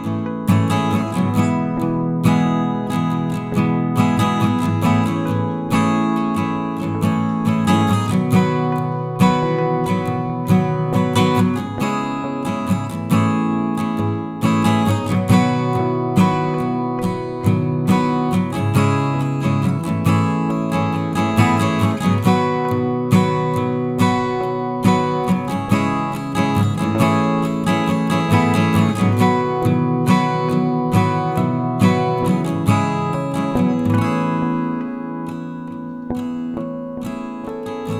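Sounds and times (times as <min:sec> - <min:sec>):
strummed acoustic guitar: 0:00.0 - 0:37.9.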